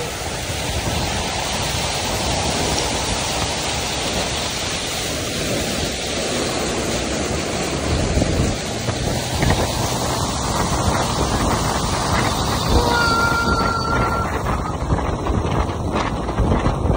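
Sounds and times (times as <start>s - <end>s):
tyres splashing through floodwater: 0.0s - 16.9s.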